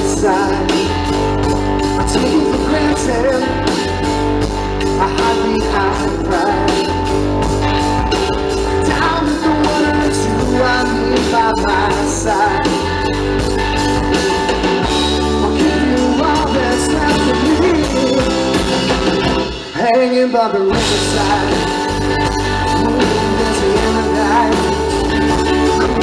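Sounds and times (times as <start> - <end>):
electric bass: 0.0 - 19.8, 20.7 - 26.0
drum kit steady beat: 0.0 - 19.9, 20.7 - 26.0
electric guitar lead line: 0.0 - 26.0.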